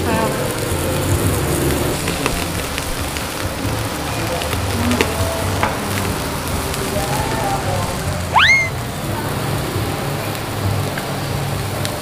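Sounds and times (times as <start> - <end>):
pork sizzling on a grill: 0.0 - 12.0.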